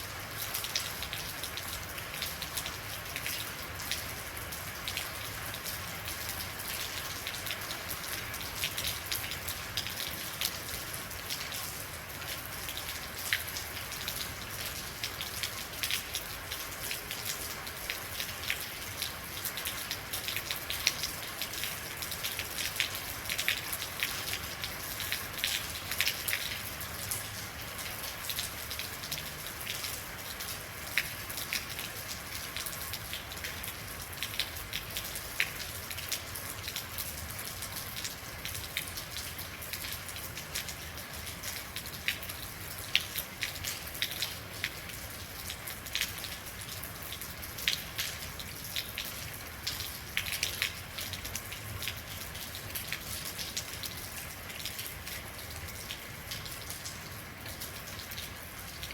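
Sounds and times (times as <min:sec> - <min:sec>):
rain pattering on hard surface: 0:00.0 - 0:58.9.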